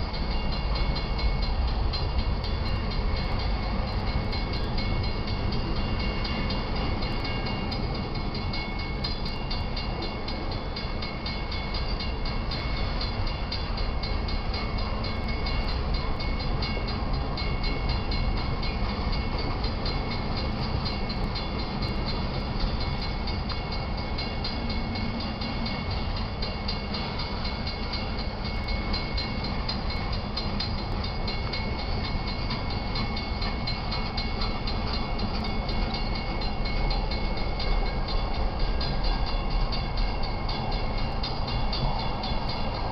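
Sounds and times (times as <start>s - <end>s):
freight train rumbling past: 0.0s - 42.9s
steel wheels ringing on rail: 0.0s - 42.9s.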